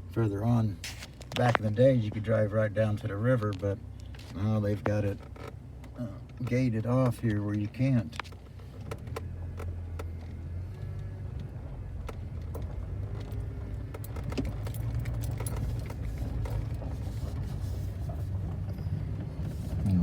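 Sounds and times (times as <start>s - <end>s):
car engine and road rumble: 0.0s - 20.0s
light clicks and rattles: 3.0s - 19.9s.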